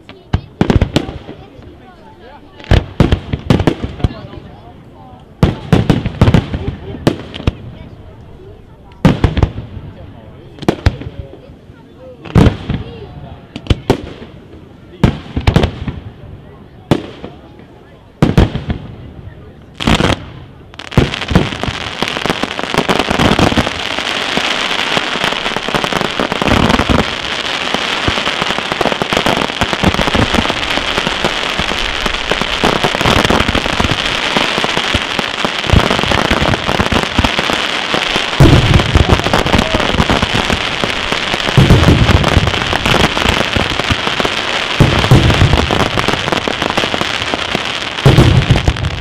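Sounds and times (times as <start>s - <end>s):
fireworks crackling: 0.0s - 49.0s.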